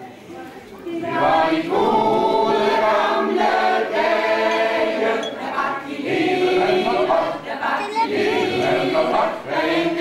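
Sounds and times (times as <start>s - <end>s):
women's choir singing: 0.8s - 10.0s.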